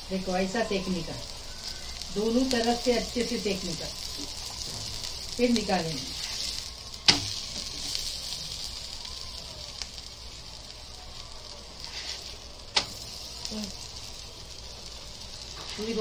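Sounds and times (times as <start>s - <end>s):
flatbread sizzling in frying pan: 0.0s - 16.0s.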